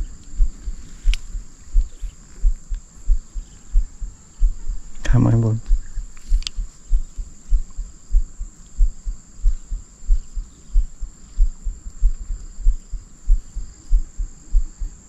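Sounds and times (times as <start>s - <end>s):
low thuds: 0.0s - 14.9s
crickets trilling: 0.0s - 15.0s.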